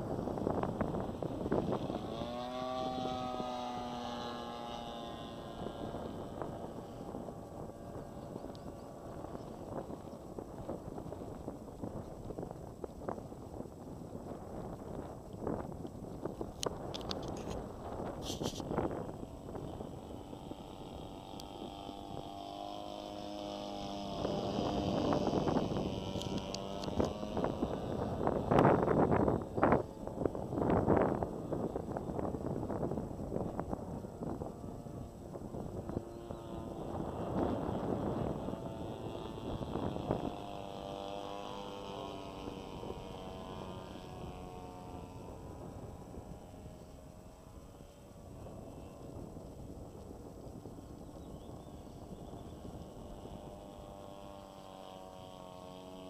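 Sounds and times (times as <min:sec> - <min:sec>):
model plane engine droning: 0:00.0 - 0:56.0
wind noise on microphone: 0:00.0 - 0:56.0.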